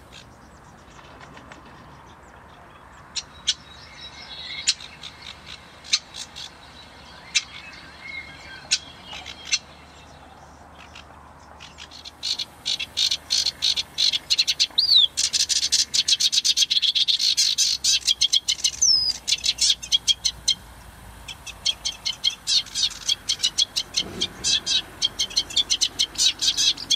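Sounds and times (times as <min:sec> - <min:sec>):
warbler chattering song: 0:00.0 - 0:26.9.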